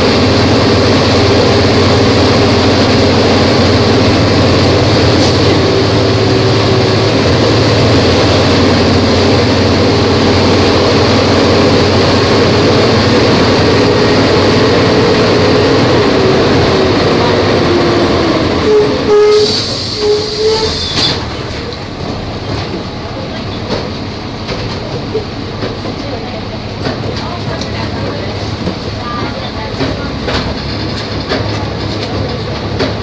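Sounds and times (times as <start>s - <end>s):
bus engine droning with whine: 0.0s - 33.0s.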